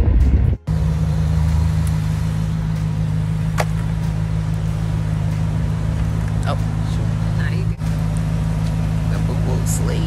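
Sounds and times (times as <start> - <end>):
car engine and road drone: 0.0 - 10.0.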